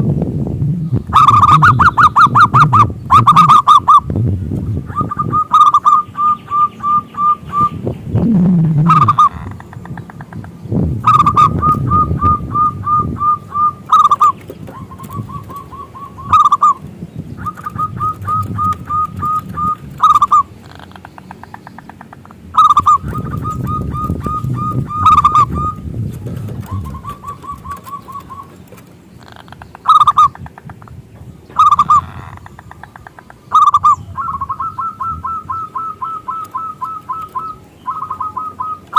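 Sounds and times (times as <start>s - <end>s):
doves calling staccato notes: 0.9s - 38.9s.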